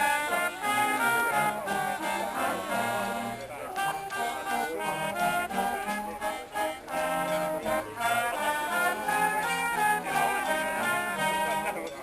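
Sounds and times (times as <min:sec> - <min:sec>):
brass music: 0:00.0 - 0:12.0.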